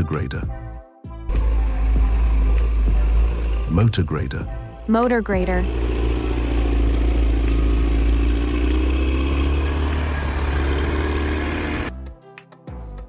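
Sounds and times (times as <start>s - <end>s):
diesel engine rumbling: 1.3s - 11.9s.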